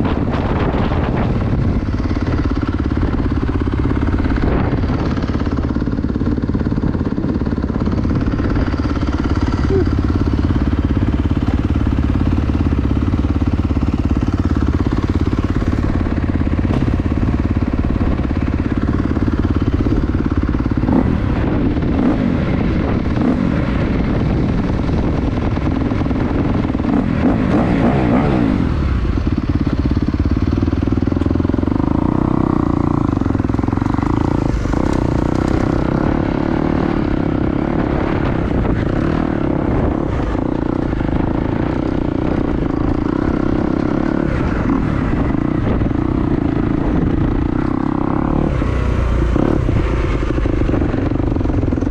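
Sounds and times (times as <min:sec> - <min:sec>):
motorcycle engine running: 0:00.0 - 0:51.9
wind noise on microphone: 0:00.0 - 0:51.9.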